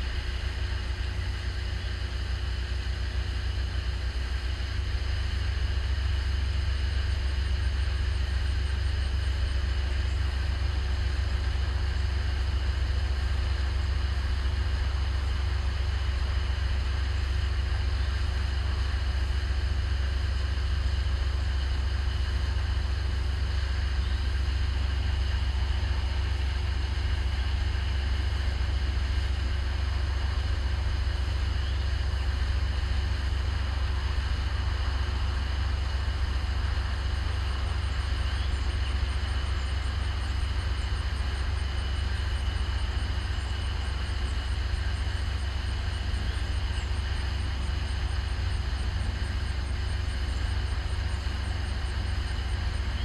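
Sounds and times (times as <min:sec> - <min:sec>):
diesel engines rumbling: 0:00.0 - 0:53.0.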